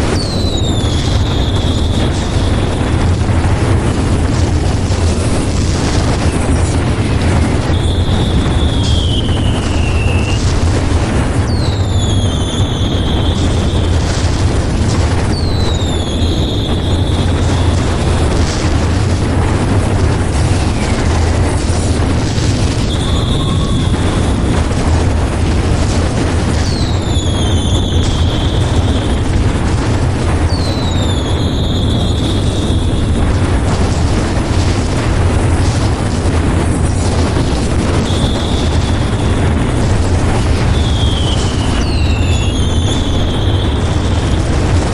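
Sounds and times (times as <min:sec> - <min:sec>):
fireworks booming and crackling: 0:00.0 - 0:44.9
whistling rockets: 0:00.0 - 0:44.9.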